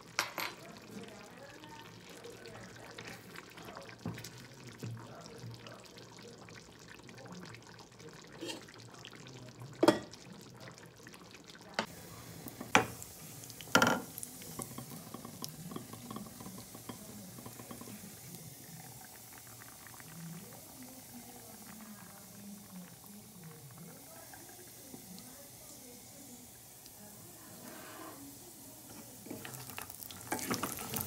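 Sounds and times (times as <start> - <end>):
nuts sizzling in oil: 6.0 - 31.0.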